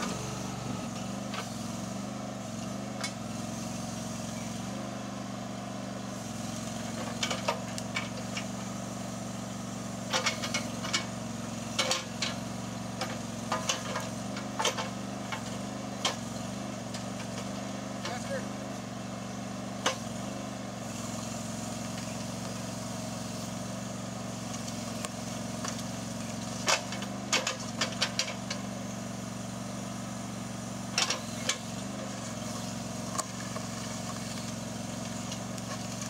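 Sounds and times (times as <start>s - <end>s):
backhoe engine running: 0.0s - 36.0s.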